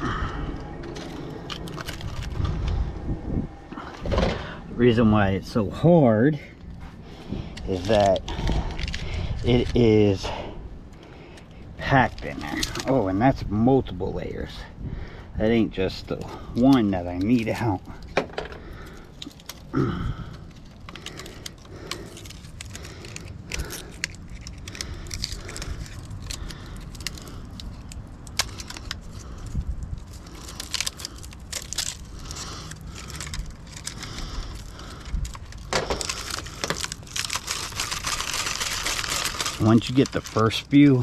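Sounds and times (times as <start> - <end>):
wire crackling and scraping: 0.1 - 13.6, 15.4 - 41.0.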